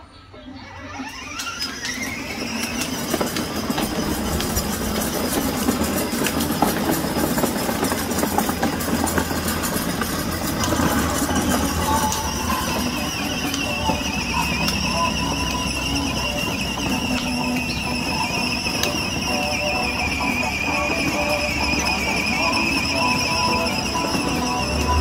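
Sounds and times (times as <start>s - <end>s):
plastic wheels rattling over tiles: 0.6s - 25.0s
electric motor hum: 1.6s - 25.0s.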